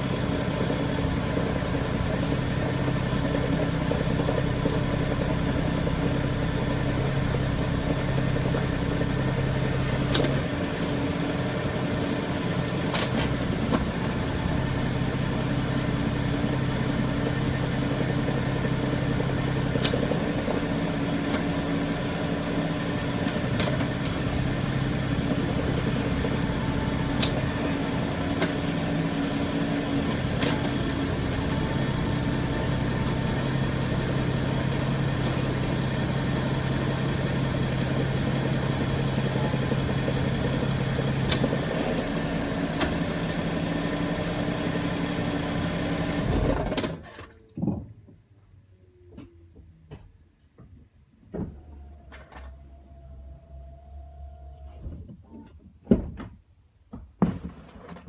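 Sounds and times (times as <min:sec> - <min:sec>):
car engine idling: 0:00.0 - 0:46.6.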